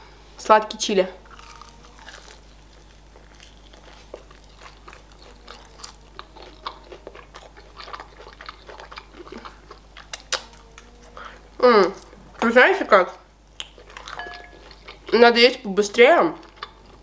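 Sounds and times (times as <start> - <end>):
chewing crispy chicken: 1.2 - 12.5, 13.1 - 15.4, 16.3 - 17.0.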